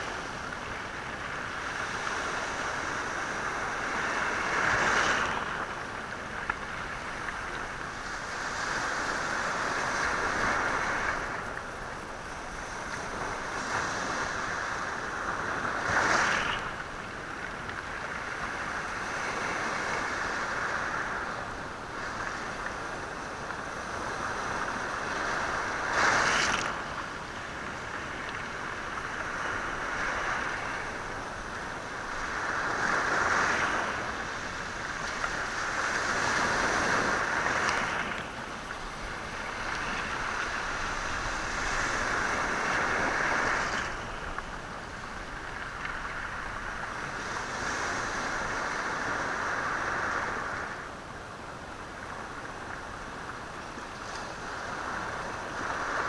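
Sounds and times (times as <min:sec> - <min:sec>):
waves washing over stony shore: 0:00.0 - 0:50.9.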